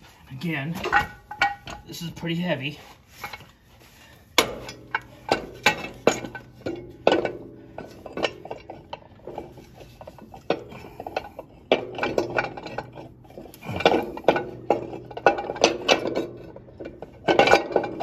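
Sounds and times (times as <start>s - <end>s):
metal cover clanking: 0.7s - 2.2s, 4.4s - 18.0s.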